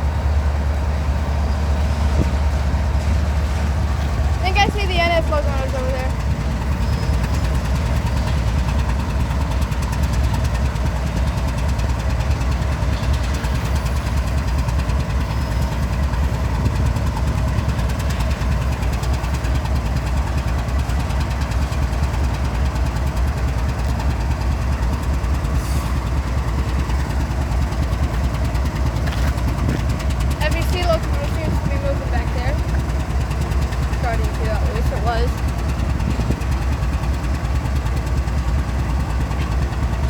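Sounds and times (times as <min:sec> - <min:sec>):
locomotive engines idling: 0:00.0 - 0:40.0.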